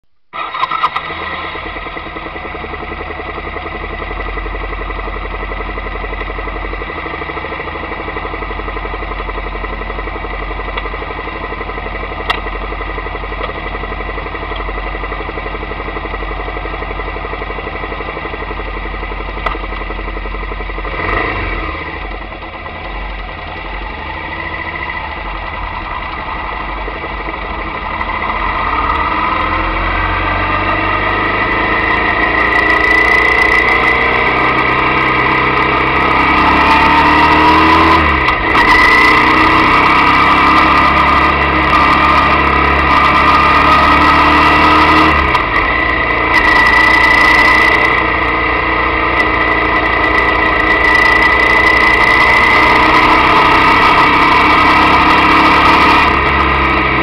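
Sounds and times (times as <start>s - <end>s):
motorcycle engine at low revs: 0.0s - 57.0s.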